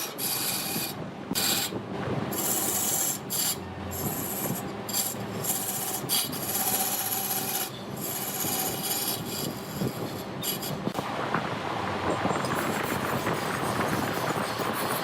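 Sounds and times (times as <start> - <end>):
lathe tool scraping wood: 0.0 - 11.0, 12.4 - 15.0.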